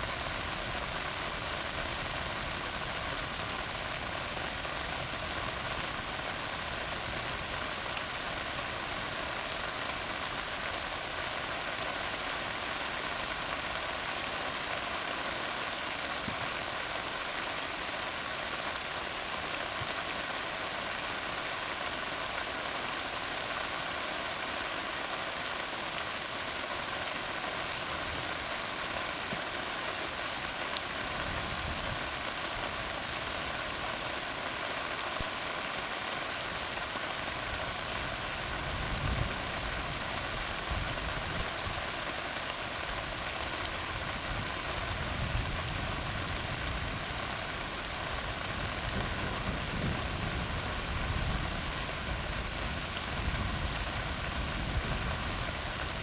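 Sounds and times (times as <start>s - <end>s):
rain falling on a road: 0.0s - 56.0s.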